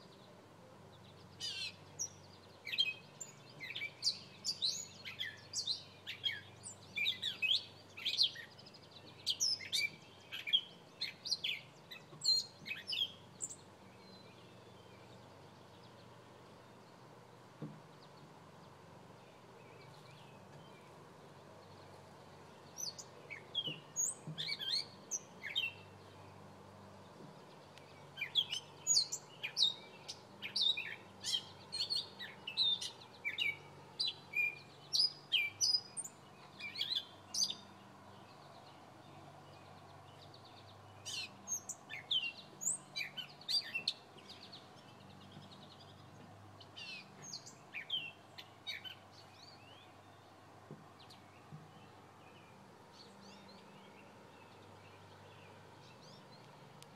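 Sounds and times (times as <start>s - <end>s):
bird chirping: 0.0s - 56.9s
faint low hum: 0.0s - 56.9s.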